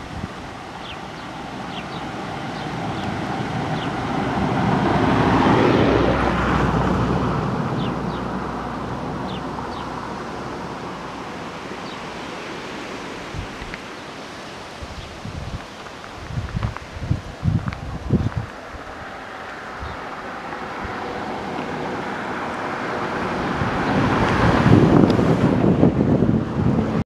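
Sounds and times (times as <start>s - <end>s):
vehicle passing by: 0.6s - 13.4s, 17.9s - 27.0s.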